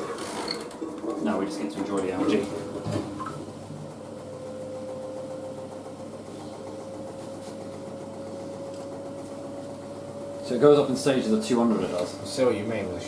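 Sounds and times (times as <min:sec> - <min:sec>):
washing machine motor whining: 0:00.0 - 0:13.0.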